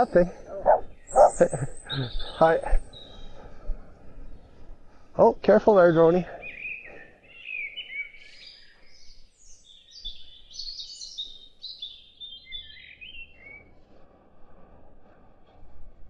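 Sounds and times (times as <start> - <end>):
songbird chirping and warbling: 0.0 - 14.2.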